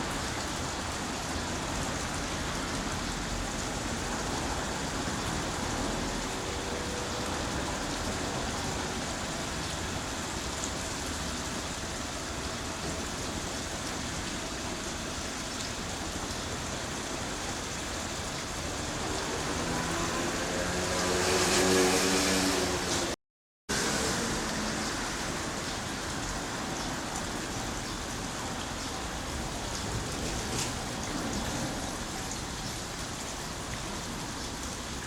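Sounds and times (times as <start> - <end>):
rain hiss: 0.0 - 35.0
traffic on wet road: 0.0 - 35.0.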